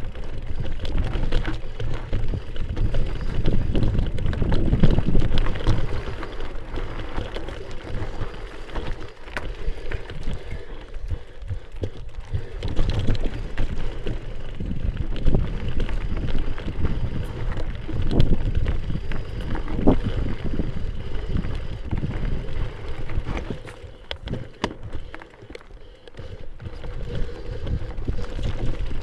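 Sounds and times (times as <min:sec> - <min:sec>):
wind buffeting microphone: 0:00.0 - 0:09.0, 0:10.0 - 0:25.2
bicycle rolling over dirt trail: 0:00.0 - 0:29.0
bike clicks and rattles: 0:00.0 - 0:29.0.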